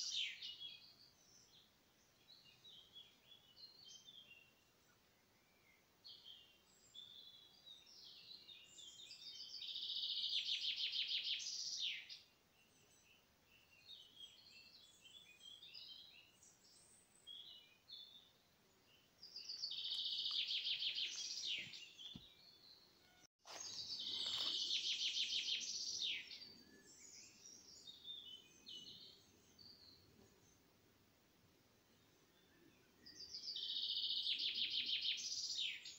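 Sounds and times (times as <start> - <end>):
bird chirps: 0.0 - 30.6, 31.9 - 35.9.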